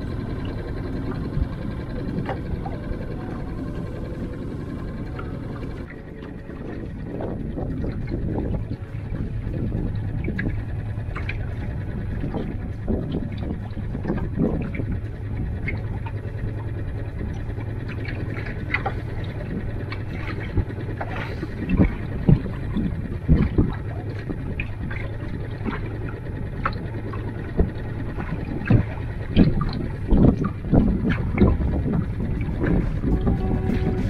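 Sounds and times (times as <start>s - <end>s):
low rumble: 0.0s - 34.0s
waves lapping against boat hull: 0.0s - 34.0s.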